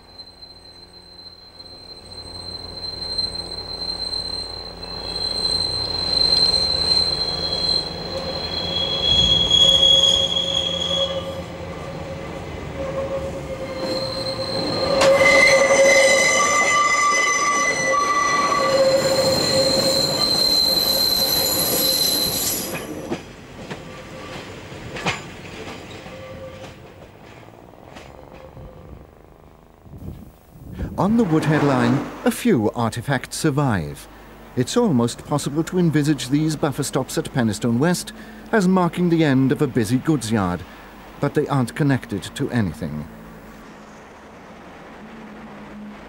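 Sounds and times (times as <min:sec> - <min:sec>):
train wheels squealing on rails: 0:00.0 - 0:29.1, 0:35.5 - 0:46.0.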